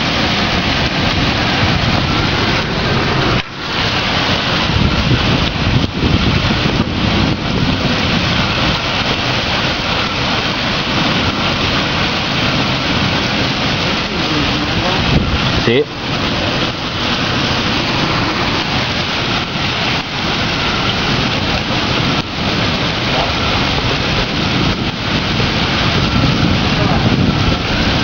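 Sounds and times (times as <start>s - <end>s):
torrential rain hissing: 0.0s - 28.0s.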